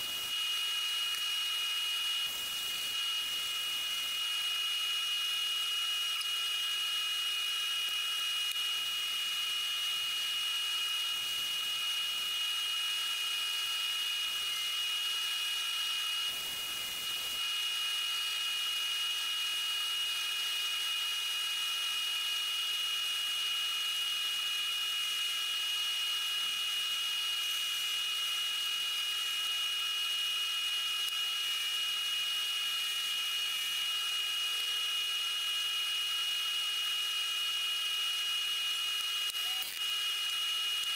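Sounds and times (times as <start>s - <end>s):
wood lathe motor whine: 0.0s - 40.9s.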